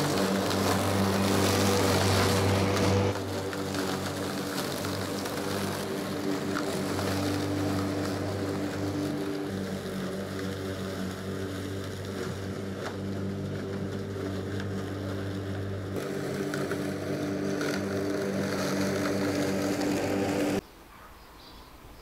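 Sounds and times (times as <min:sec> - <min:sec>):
lawn mower running: 0:00.0 - 0:20.6.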